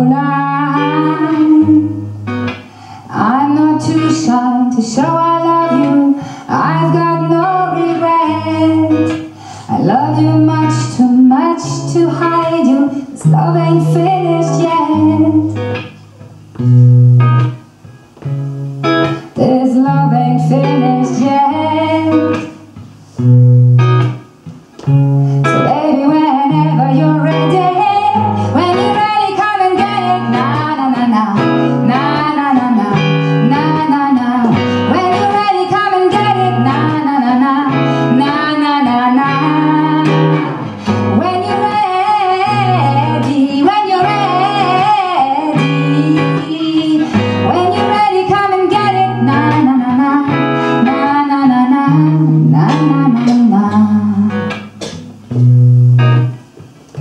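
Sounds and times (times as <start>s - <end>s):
person singing with vibrato: 0.0s - 16.8s, 19.0s - 23.3s, 25.3s - 55.1s
electric guitar strumming chords: 0.0s - 57.0s.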